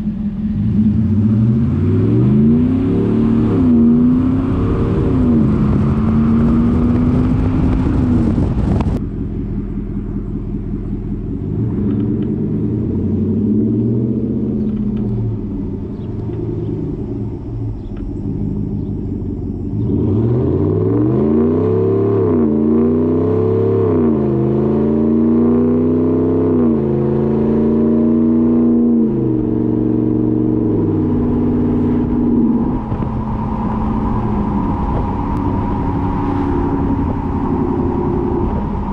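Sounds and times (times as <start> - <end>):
truck engine through exhaust: 0.0 - 38.9.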